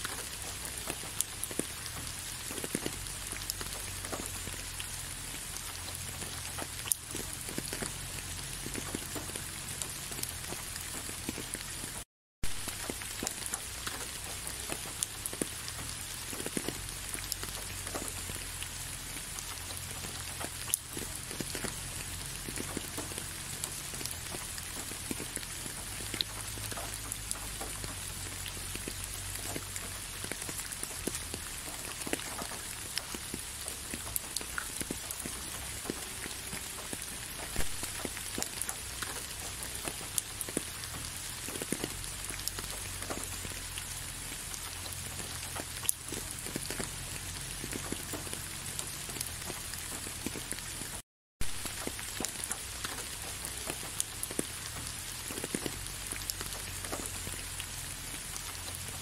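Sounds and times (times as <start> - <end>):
raindrops ticking: 0.0 - 59.0
steady rain: 0.0 - 59.0.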